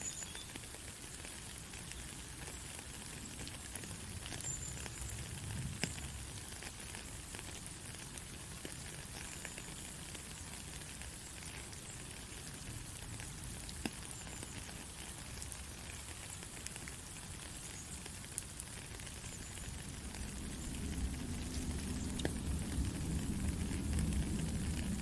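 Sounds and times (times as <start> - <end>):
raindrops ticking: 0.0 - 25.0
steady rain hiss: 0.0 - 25.0.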